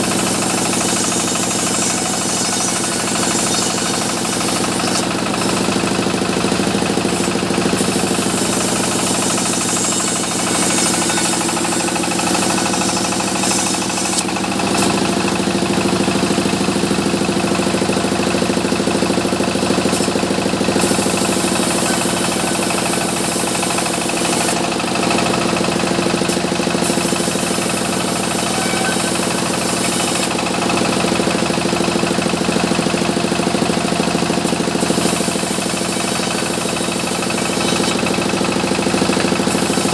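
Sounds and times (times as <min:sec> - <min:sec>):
saw hissing through timber: 0:00.0 - 0:39.9
sawmill machinery drone: 0:00.0 - 0:39.9.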